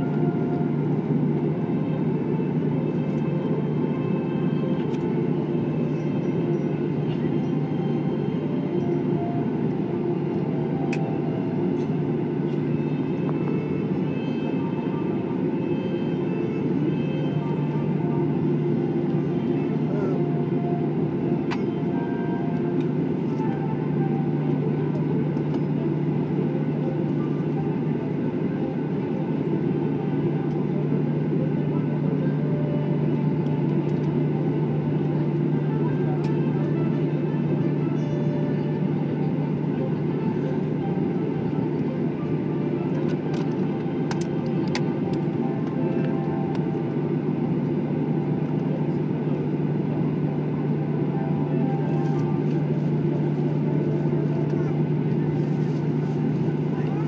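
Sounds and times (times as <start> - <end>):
jet engines humming: 0.0 - 57.0.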